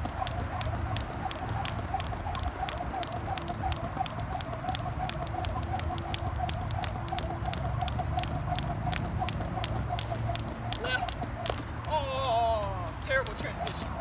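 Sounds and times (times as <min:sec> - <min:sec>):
jump ropes slapping concrete: 0:00.0 - 0:14.0.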